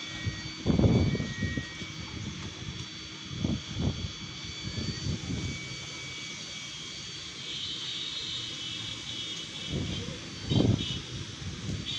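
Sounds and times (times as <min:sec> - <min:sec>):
high-pitched whine: 0:00.0 - 0:11.9.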